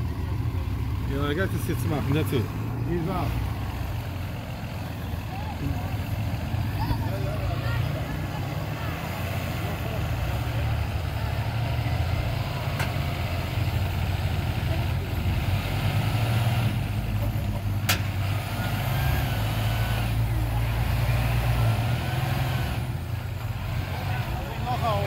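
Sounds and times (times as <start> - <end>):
heavy vehicle engines under load: 0.0 - 25.0.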